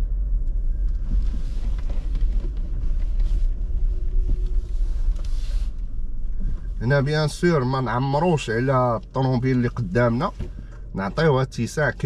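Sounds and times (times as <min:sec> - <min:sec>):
car rumbling inside cabin: 0:00.0 - 0:12.0.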